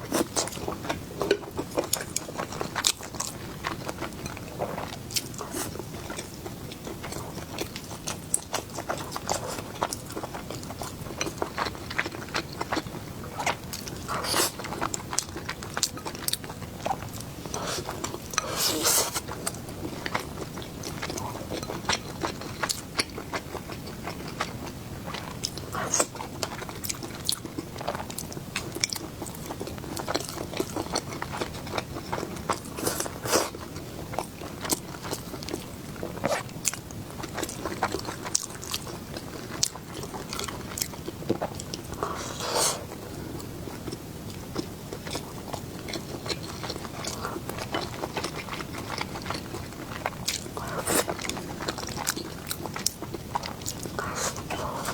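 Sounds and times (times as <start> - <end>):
person chewing food: 0.1 - 54.9.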